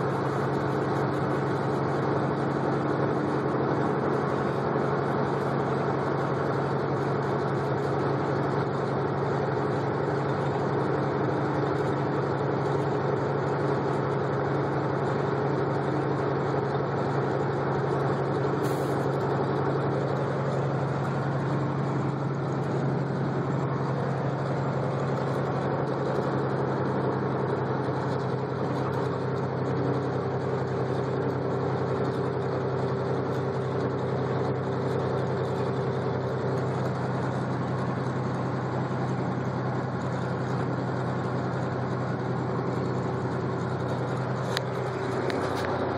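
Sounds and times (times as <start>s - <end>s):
vehicle engine drone: 0.0s - 45.9s.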